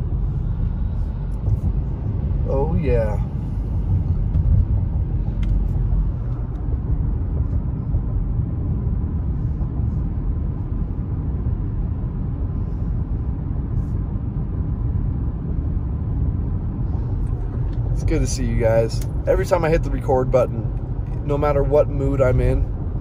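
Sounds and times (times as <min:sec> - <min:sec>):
road rumble and tyre hiss: 0:00.0 - 0:23.0.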